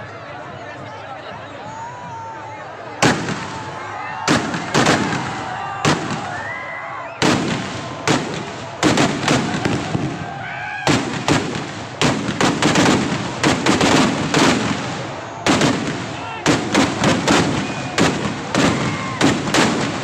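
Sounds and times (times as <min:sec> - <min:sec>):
firecrackers bursting: 0:03.0 - 0:20.0.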